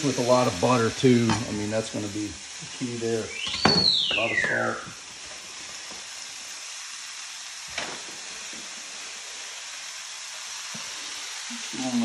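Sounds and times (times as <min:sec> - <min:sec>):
mushrooms sizzling in oil: 0:00.0 - 0:12.0.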